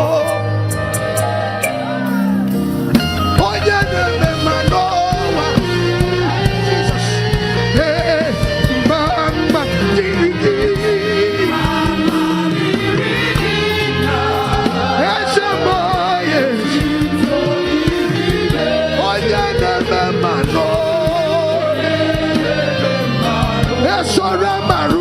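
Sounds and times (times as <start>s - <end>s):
congregation singing: 0.0s - 25.0s
instrumental backing: 0.0s - 25.0s.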